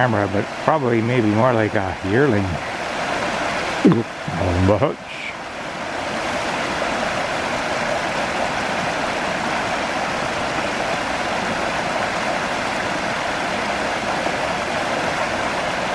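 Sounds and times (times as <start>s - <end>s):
creek water rushing over rocks: 0.0s - 15.9s.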